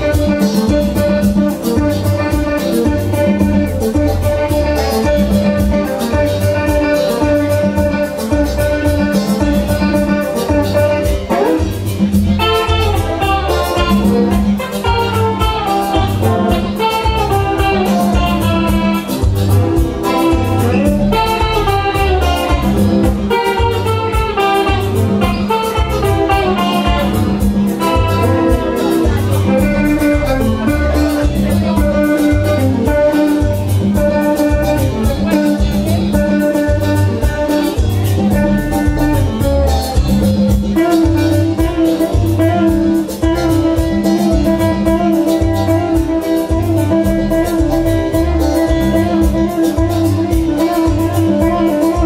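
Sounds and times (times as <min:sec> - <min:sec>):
bass line: 0:00.0 - 0:52.0
drum beat: 0:00.0 - 0:52.0
electric guitar: 0:00.0 - 0:52.0.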